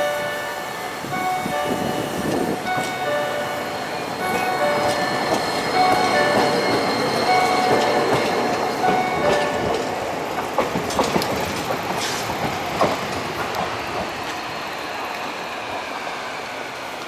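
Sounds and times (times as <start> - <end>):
tram wheels clattering over rails: 0.0 - 17.0.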